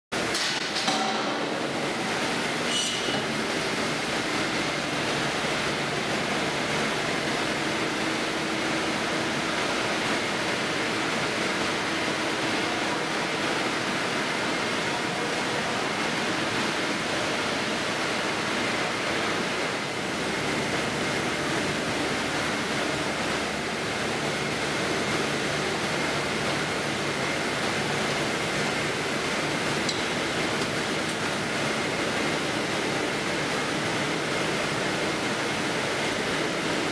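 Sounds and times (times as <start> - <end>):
factory machinery running: 0.2 - 36.9.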